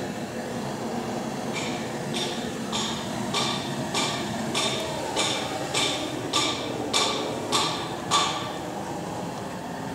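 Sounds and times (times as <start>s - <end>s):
steady background noise: 0.0s - 9.9s.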